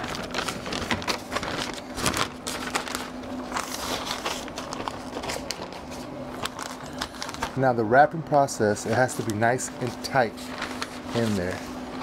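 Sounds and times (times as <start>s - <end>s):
paper crinkling and rustling: 0.0s - 7.8s, 8.6s - 12.0s.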